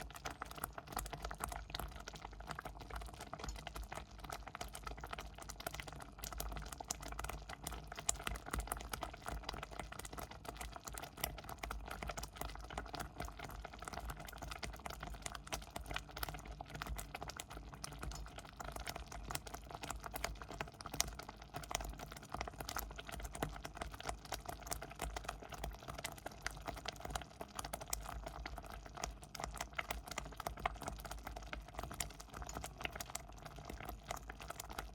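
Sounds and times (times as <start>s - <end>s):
porridge boiling in a pot: 0.0s - 34.9s.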